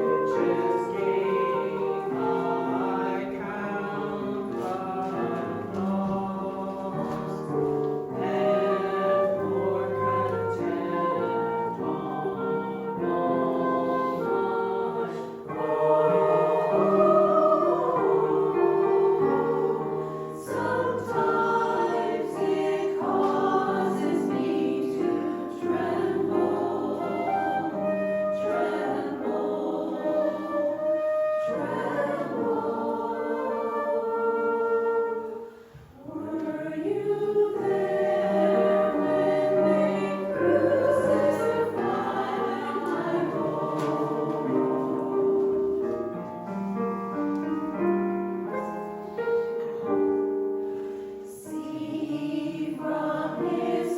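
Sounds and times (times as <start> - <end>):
choir singing sacred song: 0.0 - 53.9
instrumental accompaniment: 0.0 - 53.9.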